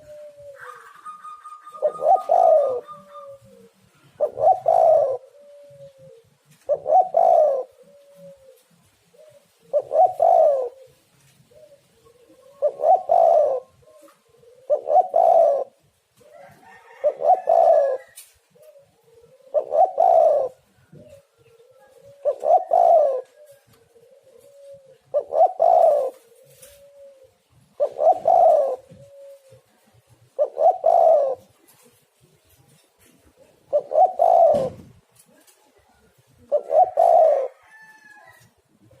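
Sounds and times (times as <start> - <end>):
dove cooing: 0.0 - 39.0.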